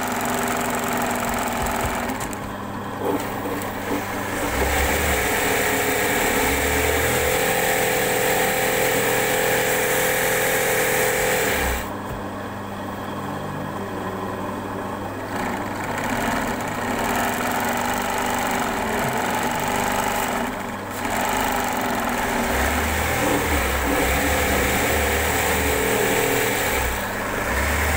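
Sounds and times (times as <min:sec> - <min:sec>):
sewing machine running: 0:00.0 - 0:11.9, 0:15.3 - 0:27.9.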